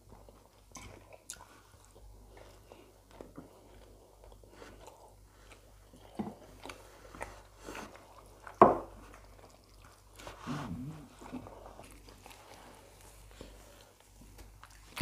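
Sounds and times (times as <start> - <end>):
chewing and mouth noises: 0.0 - 15.0.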